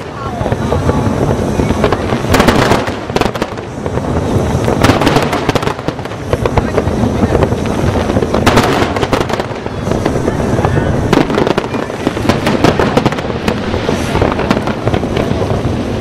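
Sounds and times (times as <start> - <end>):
continuous low rumble: 0.0 - 16.0
fireworks bursting: 0.0 - 16.0.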